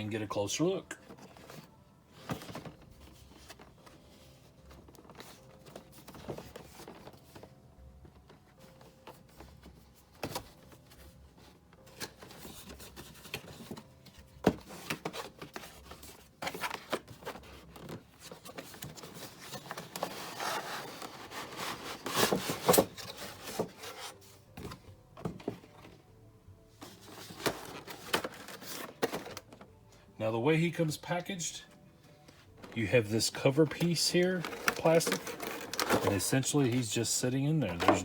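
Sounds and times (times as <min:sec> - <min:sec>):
faint background music: 0:00.0 - 0:38.0
cardboard and plastic scraping: 0:01.0 - 0:26.0, 0:26.7 - 0:29.8, 0:32.3 - 0:38.0.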